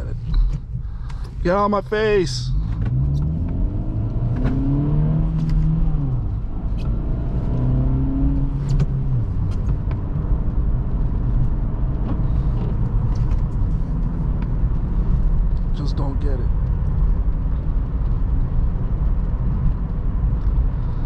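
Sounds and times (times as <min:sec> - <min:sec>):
car engine accelerating: 0:00.0 - 0:21.0
road rumble: 0:00.0 - 0:21.0.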